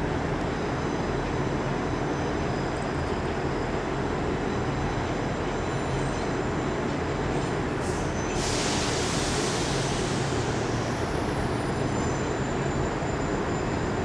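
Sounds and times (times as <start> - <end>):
passenger train rumble and hiss: 0.0 - 14.0.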